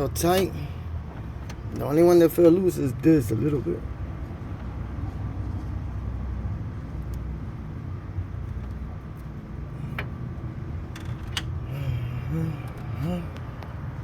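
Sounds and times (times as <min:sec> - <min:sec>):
motor vehicle low rumble: 0:00.0 - 0:14.0.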